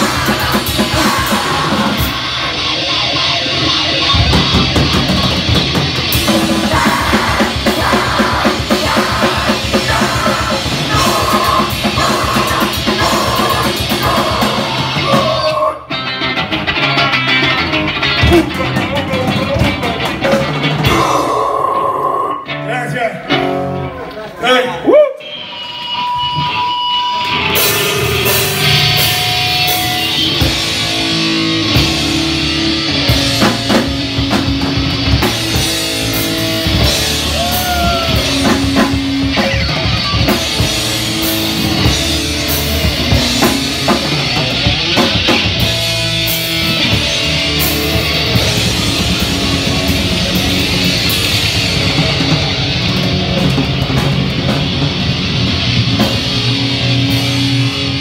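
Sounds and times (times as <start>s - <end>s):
live band playing heavy music: 0.0s - 58.0s.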